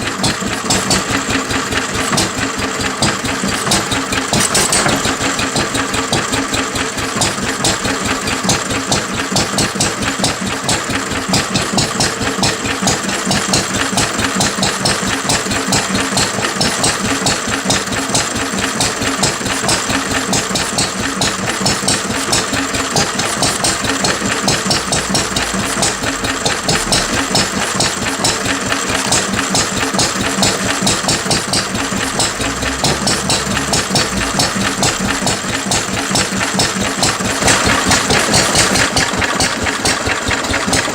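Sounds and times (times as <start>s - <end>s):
stationary engine running: 0.0s - 40.9s.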